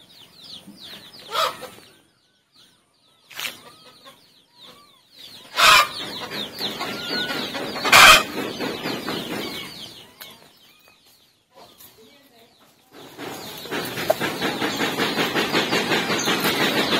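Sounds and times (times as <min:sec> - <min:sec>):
chickens clucking: 0:00.0 - 0:16.9
chicks peeping: 0:00.0 - 0:16.9.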